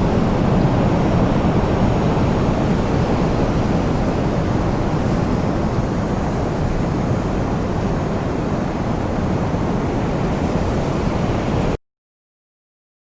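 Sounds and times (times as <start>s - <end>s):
wind blowing: 0.0s - 11.8s.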